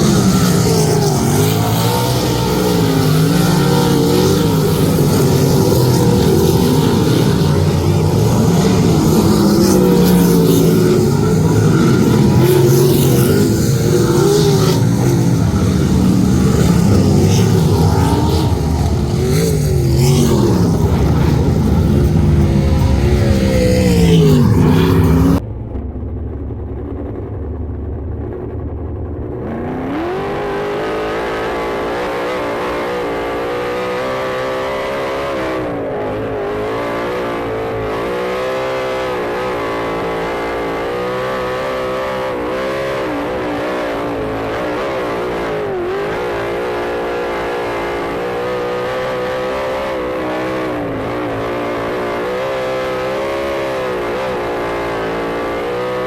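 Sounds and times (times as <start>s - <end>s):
racing car engine revving: 0.0s - 25.4s, 29.1s - 56.0s.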